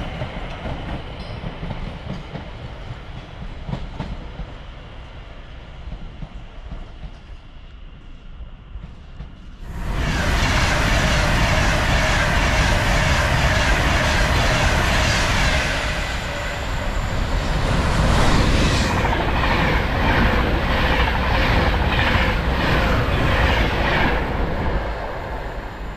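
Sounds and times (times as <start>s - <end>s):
train passing: 0.0s - 25.9s.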